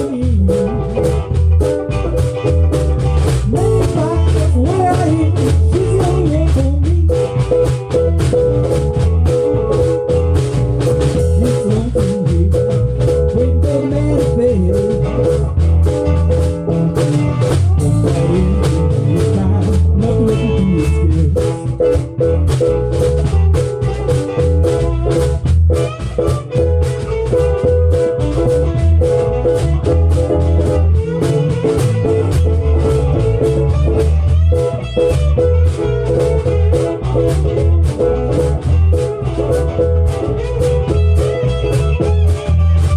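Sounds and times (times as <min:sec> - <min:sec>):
drum kit steady beat: 0:00.0 - 0:42.9
electric guitar playing: 0:00.0 - 0:42.9.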